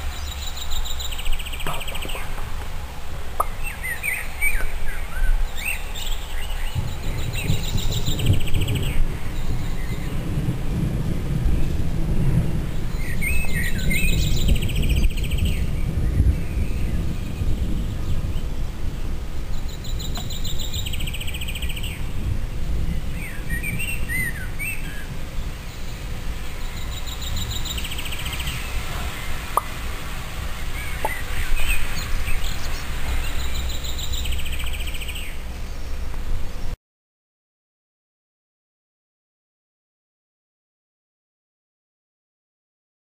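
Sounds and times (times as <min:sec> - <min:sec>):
birds chirping: 0:00.0 - 0:36.8.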